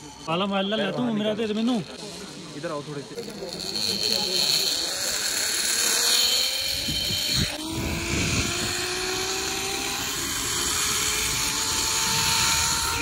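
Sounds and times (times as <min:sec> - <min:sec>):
zipline pulley whining on cable: 0:00.0 - 0:13.0.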